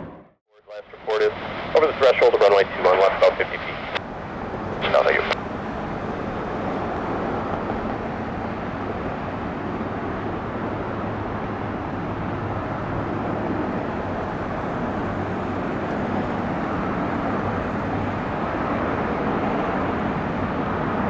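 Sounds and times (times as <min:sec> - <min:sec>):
jet engine rushing: 0:00.9 - 0:21.0.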